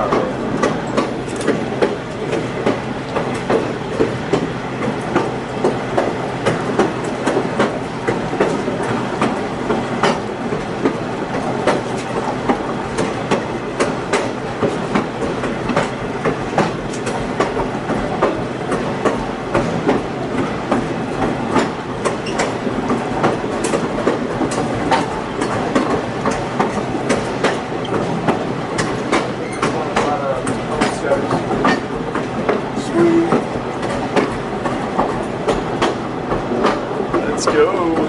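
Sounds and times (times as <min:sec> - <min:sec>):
train rumble: 0:00.0 - 0:38.0
wheels clicking over rail joints: 0:00.0 - 0:38.0.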